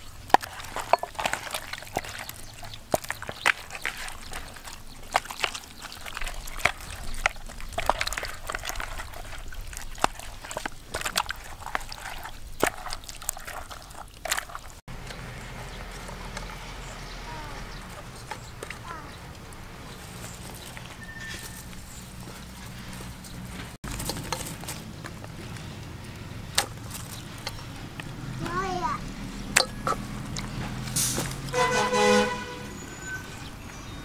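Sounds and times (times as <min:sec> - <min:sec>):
hands kneading wet raw meat: 0:00.0 - 0:31.7
outdoor background noise: 0:00.0 - 0:34.0.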